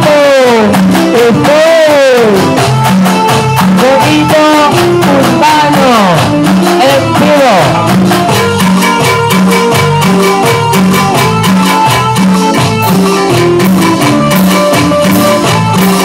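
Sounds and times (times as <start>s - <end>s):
latin dance band music: 0.0s - 16.0s.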